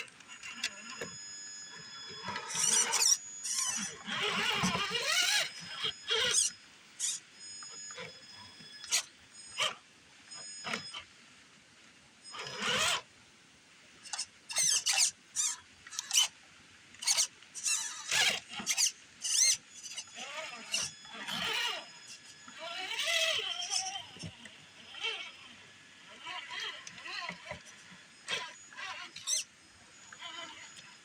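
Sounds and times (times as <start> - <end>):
toy car electric motor whining: 0.0 - 11.1, 12.2 - 13.1, 14.0 - 16.4, 17.0 - 31.0.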